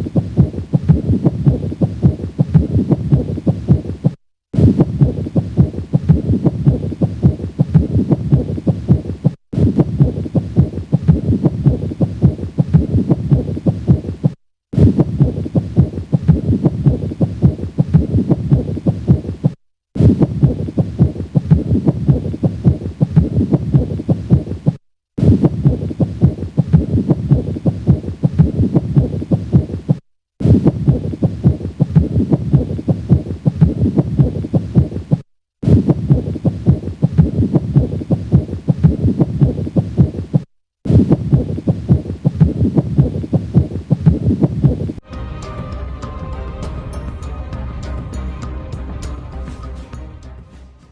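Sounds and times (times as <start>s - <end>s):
heart sounds with friction rub: 0.0s - 45.0s.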